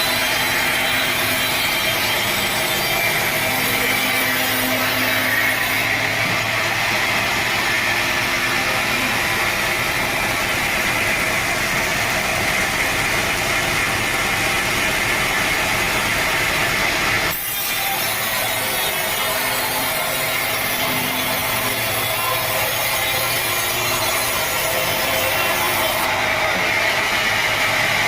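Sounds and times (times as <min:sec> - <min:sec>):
saw cutting through log: 0:00.0 - 0:28.0.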